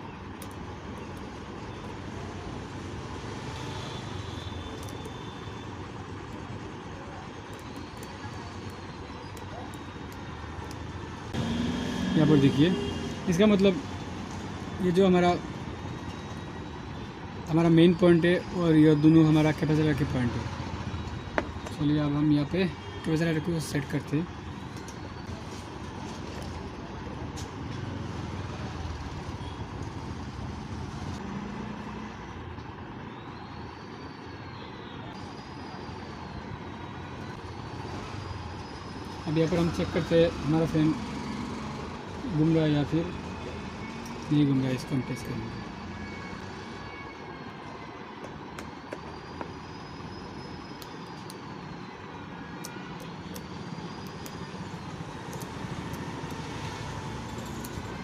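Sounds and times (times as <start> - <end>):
road traffic: 0.0 - 58.0.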